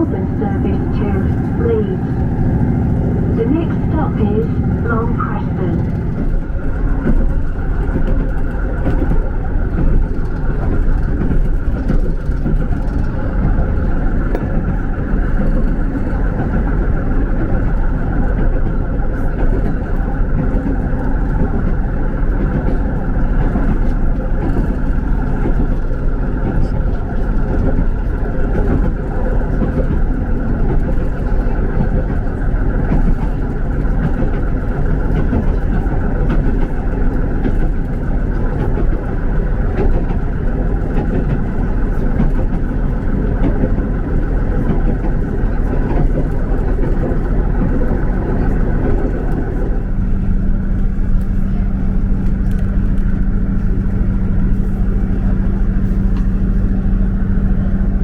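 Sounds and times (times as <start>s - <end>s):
low engine hum: 0.0s - 58.0s
train running rumble: 0.0s - 58.0s.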